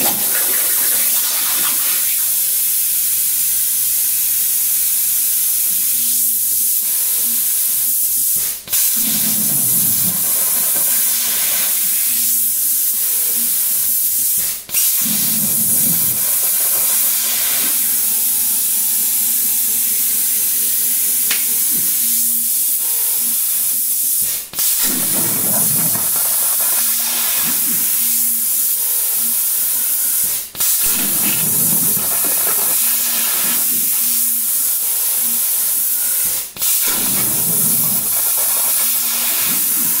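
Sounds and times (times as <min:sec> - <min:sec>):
plasma torch hissing: 0:00.0 - 0:40.0.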